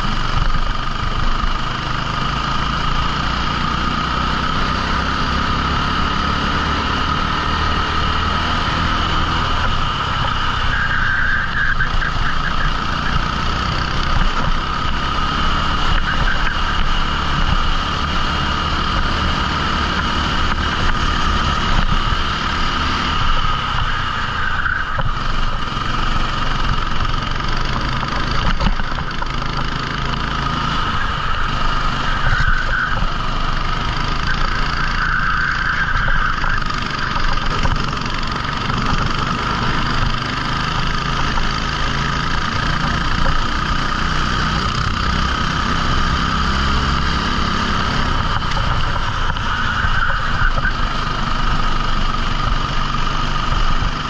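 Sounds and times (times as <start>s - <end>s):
kart engine running hard: 0.0s - 54.0s
steady high whine: 0.0s - 54.0s.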